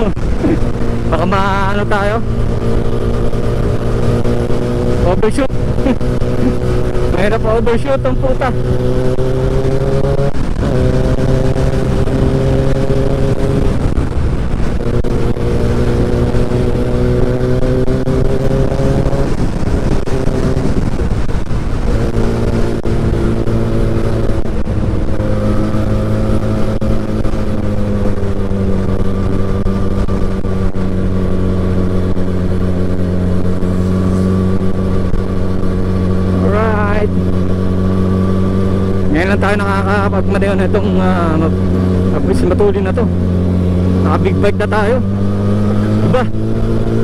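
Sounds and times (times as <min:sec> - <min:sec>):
motorcycle engine at speed: 0:00.0 - 0:47.0
wind and road noise: 0:00.0 - 0:47.0.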